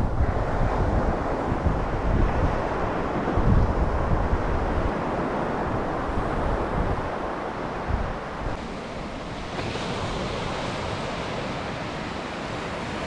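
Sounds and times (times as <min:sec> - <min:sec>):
small waves breaking on beach: 0:00.0 - 0:13.0
wind rumbling on microphone: 0:00.0 - 0:13.0.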